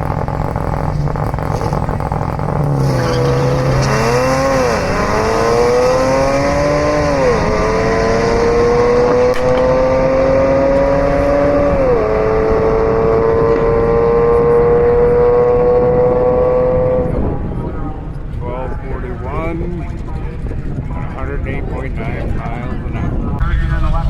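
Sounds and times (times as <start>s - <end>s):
car engine at full throttle: 0.0s - 23.6s.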